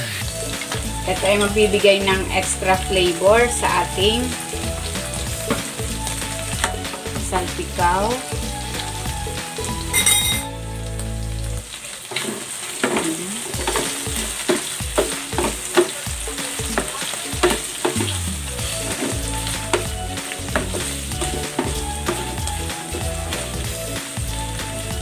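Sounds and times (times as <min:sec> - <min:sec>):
chicken sizzling in a frying pan: 0:00.0 - 0:25.0.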